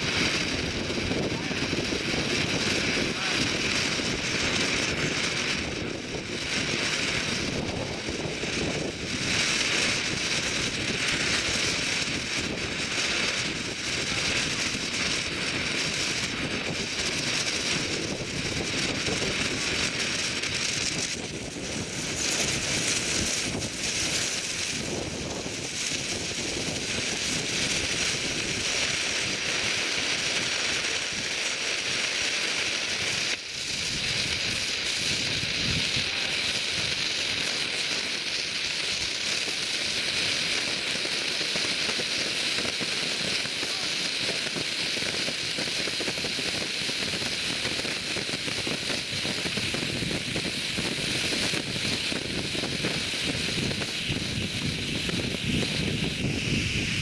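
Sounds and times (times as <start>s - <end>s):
rocket engine firing: 0.0s - 31.3s, 32.6s - 57.0s.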